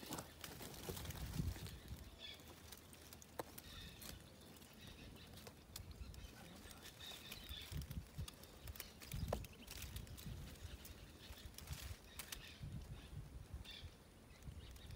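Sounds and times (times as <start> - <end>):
distant bird chirps: 0.0 - 14.9.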